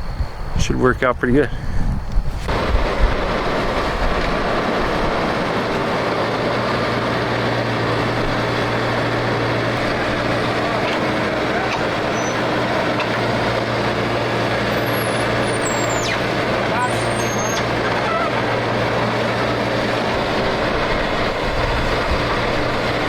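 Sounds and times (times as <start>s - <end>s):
large diesel engine running: 2.4s - 23.0s.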